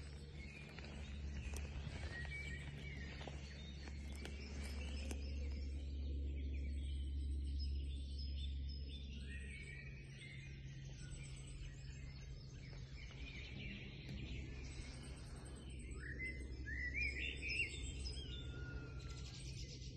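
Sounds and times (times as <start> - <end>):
low steady rumble: 0.0 - 19.9
songbirds singing and calling: 0.0 - 19.9.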